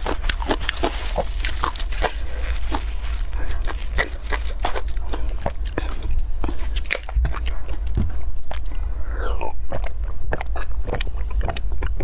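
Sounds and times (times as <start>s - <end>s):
slurping and gulping: 0.0s - 12.0s.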